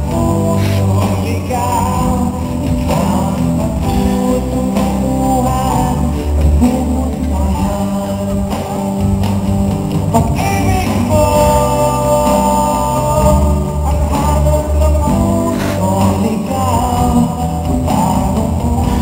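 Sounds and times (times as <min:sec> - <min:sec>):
amplified backing music: 0:00.0 - 0:19.0
man singing into microphone: 0:00.0 - 0:19.0.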